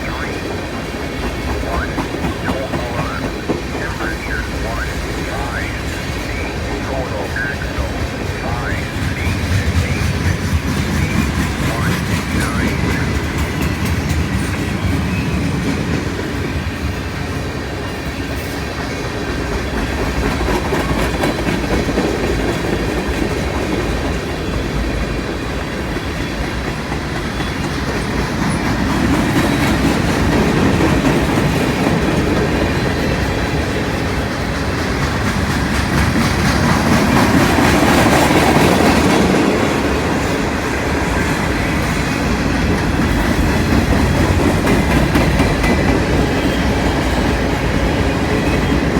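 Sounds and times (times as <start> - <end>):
freight train cars rolling: 0.0 - 48.9.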